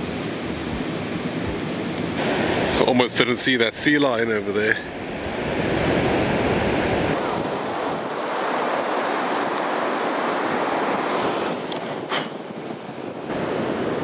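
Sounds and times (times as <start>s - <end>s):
wind on microphone: 0.0s - 3.0s, 4.8s - 14.0s
surf breaking on beach: 0.0s - 14.0s.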